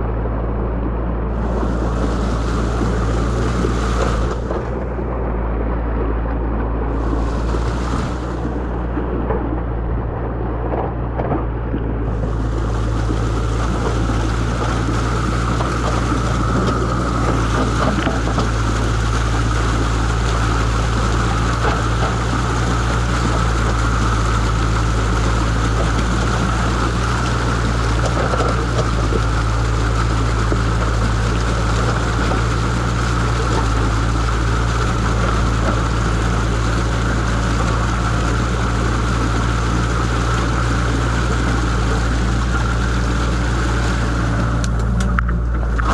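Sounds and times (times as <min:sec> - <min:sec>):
water rushing through dam breach: 0:00.0 - 0:45.9.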